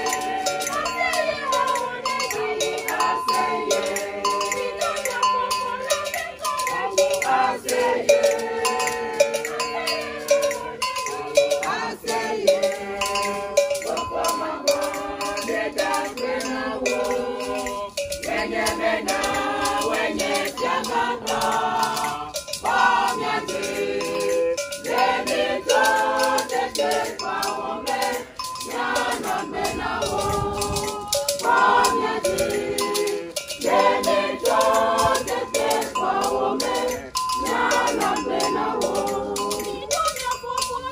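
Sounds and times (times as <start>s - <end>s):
group of voices singing: 0.0s - 40.9s
rattle shaken: 0.0s - 40.9s.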